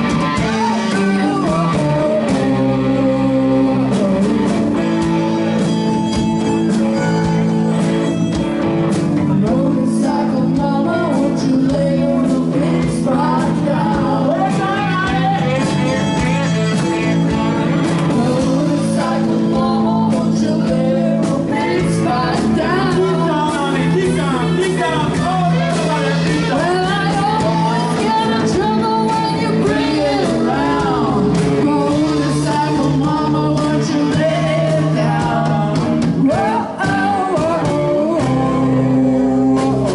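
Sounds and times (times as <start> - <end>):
person singing: 0.0 - 8.3, 9.1 - 39.9
live rock band playing: 0.0 - 39.9.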